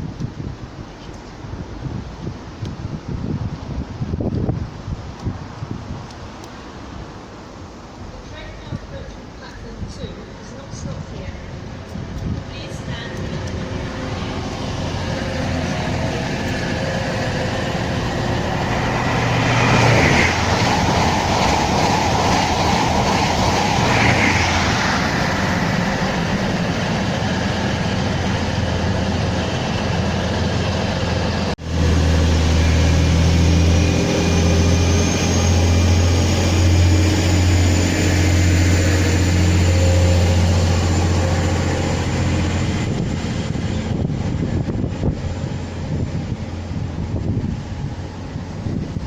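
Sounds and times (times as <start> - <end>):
train rushing past: 1.4 - 49.0.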